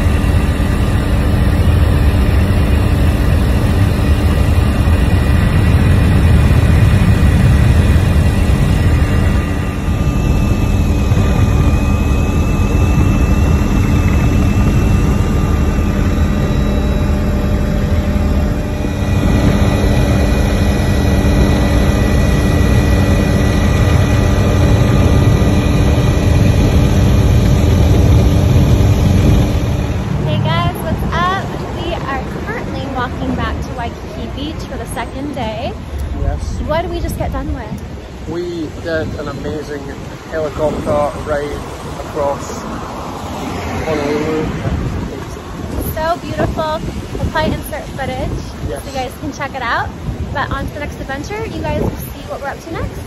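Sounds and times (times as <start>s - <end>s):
helicopter engine and rotors: 0.0s - 53.0s
whining tones: 0.0s - 53.0s.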